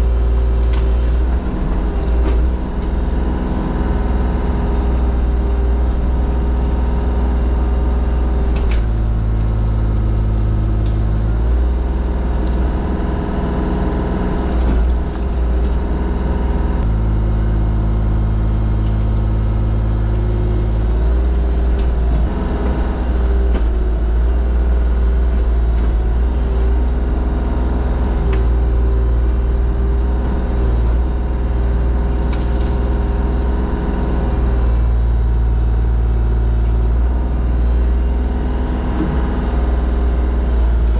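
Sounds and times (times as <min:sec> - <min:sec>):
wood cracking: 0:00.0 - 0:16.2, 0:16.8 - 0:37.6
forestry mulcher engine under load: 0:00.0 - 0:40.9.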